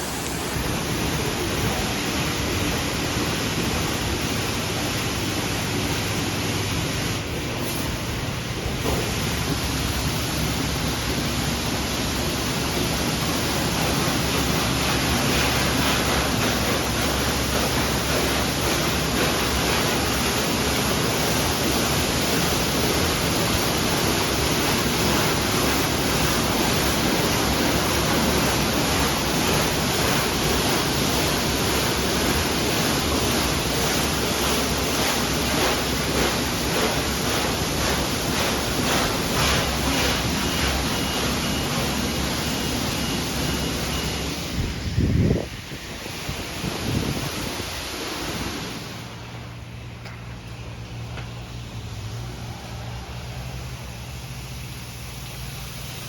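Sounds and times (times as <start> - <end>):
car wash rushing noise: 0.0 - 56.0.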